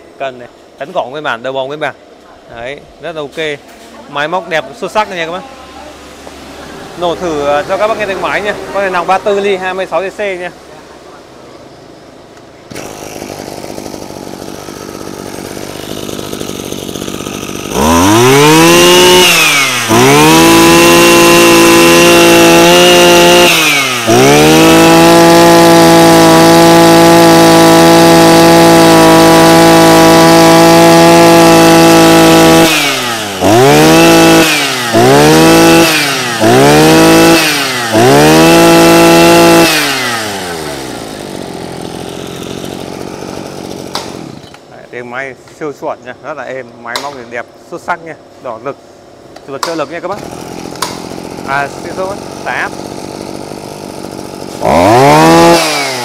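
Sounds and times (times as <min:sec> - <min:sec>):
brush cutter engine revving: 0:00.6 - 0:10.6, 0:12.3 - 0:56.0.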